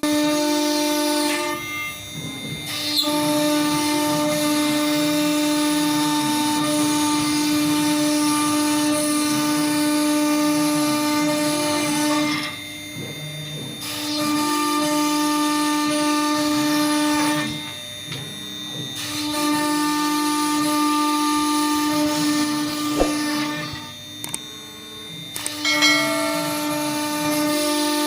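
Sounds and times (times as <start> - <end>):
router spindle whining cutting wood: 0.0 - 28.0.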